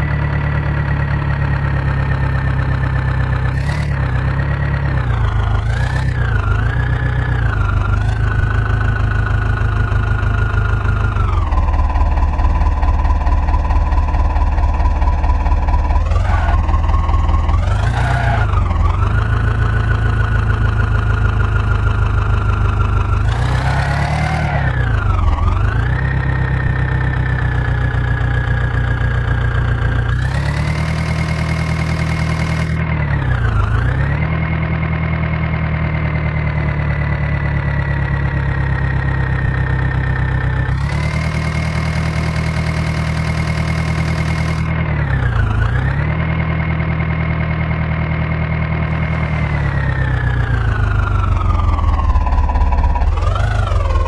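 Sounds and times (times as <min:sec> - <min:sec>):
diesel engine at high revs: 0:00.0 - 0:54.0.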